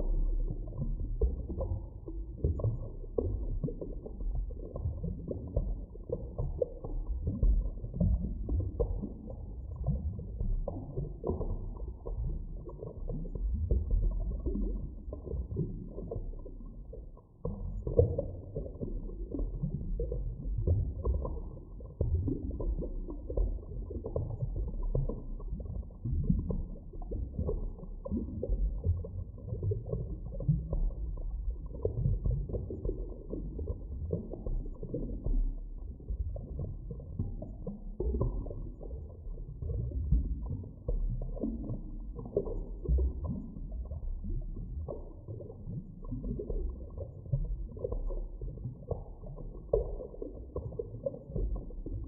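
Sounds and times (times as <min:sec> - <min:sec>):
underwater rumbling and churning: 0:00.0 - 0:52.0.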